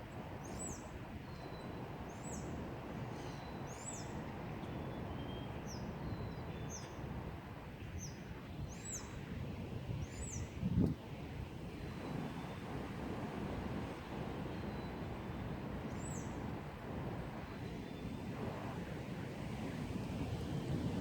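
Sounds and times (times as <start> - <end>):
wind blowing through trees: 0.0 - 21.0.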